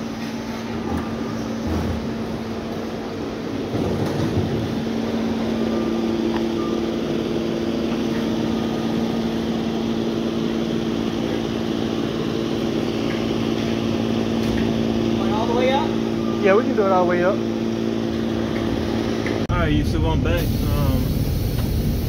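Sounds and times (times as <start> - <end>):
electric forklift hum: 0.0 - 22.0
machinery hum: 0.0 - 22.0.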